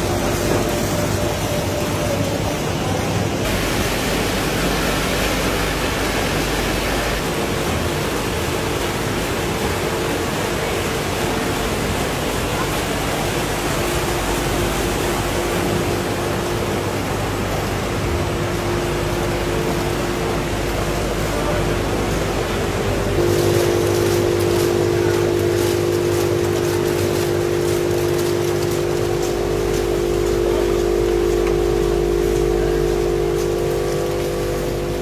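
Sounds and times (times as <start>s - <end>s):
production line machinery: 0.0s - 35.0s.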